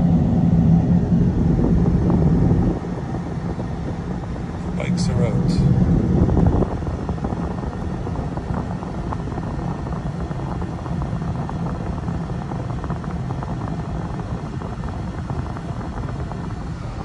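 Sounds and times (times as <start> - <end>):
car road rumble inside cabin: 0.0 - 17.0.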